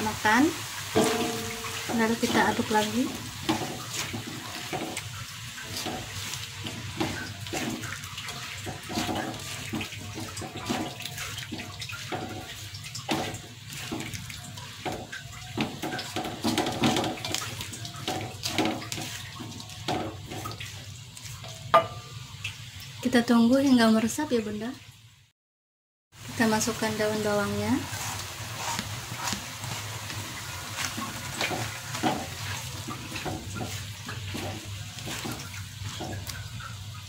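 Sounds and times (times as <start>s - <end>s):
food sizzling in a wok: 0.0s - 25.3s, 26.1s - 37.0s
spatula scraping a wok: 0.6s - 21.7s, 27.4s - 37.0s.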